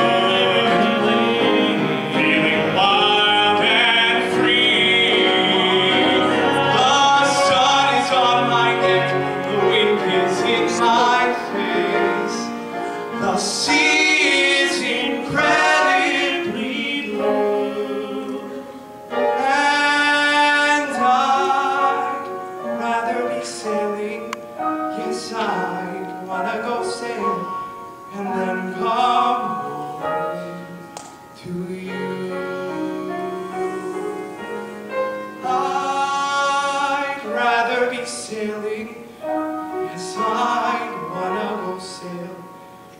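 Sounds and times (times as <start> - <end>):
man singing: 0.0 - 18.6, 19.2 - 34.4, 35.3 - 42.6
piano accompaniment: 0.0 - 42.9.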